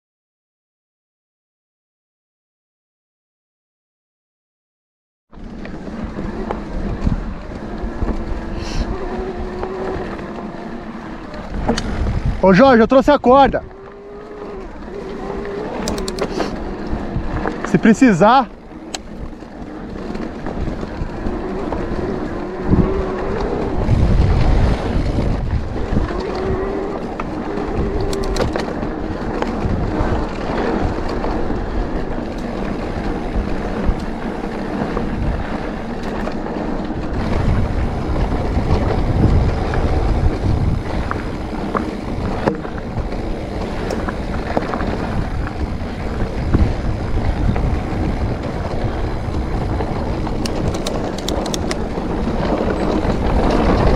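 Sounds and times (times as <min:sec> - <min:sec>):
bike tyres rolling over dirt: 0:05.3 - 0:53.9
bike frame rattling: 0:05.4 - 0:53.9
wind buffeting microphone: 0:05.4 - 0:53.9.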